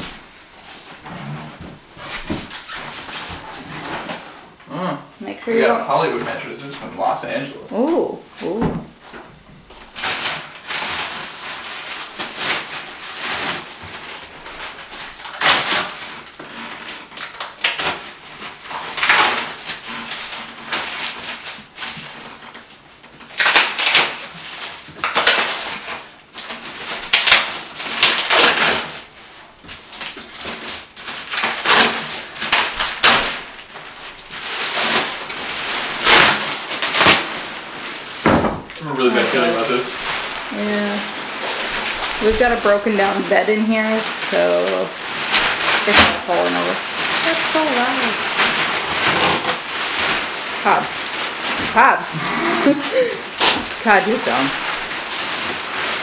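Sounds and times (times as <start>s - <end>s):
plastic wrapping rustling: 0.0s - 4.6s, 5.9s - 56.0s.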